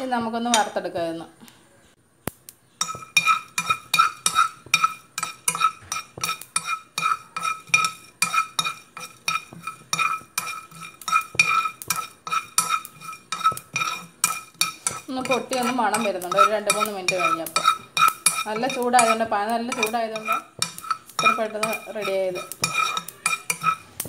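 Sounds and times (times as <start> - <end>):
spoon scraping spices in frying pan: 0.0 - 1.2, 2.3 - 24.0.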